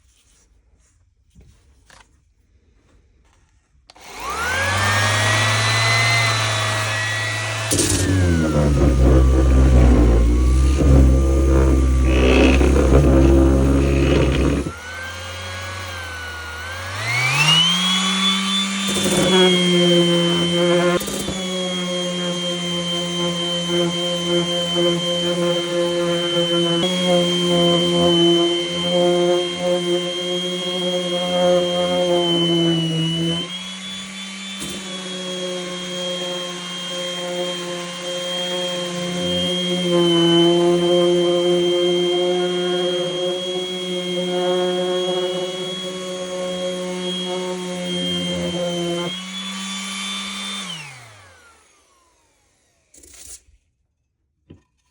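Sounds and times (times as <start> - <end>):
rotary sander sanding: 3.9 - 52.9
sander motor humming: 3.9 - 52.9.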